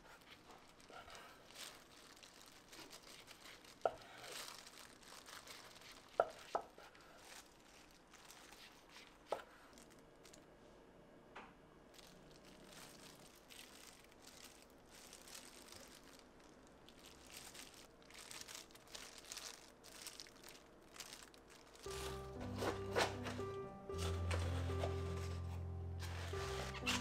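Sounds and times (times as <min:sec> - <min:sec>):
plastic glove crinkling: 0:00.0 - 0:10.5, 0:11.9 - 0:27.0.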